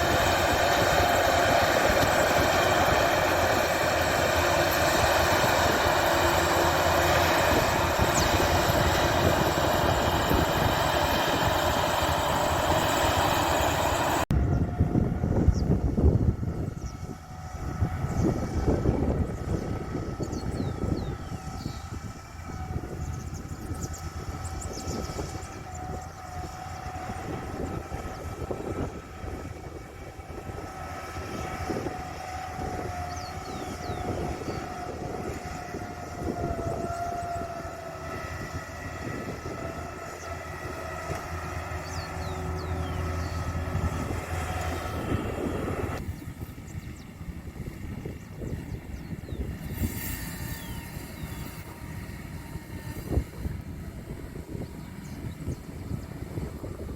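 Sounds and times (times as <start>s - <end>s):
combine harvester engine rumble: 0.0s - 56.9s
mechanical whine: 0.0s - 56.9s.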